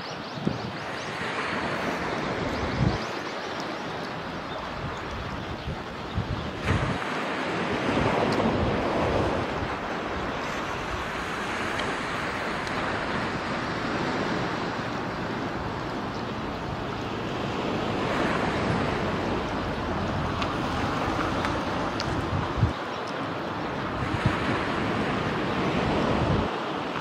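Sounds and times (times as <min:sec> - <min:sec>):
sea surf: 0:00.0 - 0:27.0
wind buffeting microphone: 0:00.0 - 0:27.0.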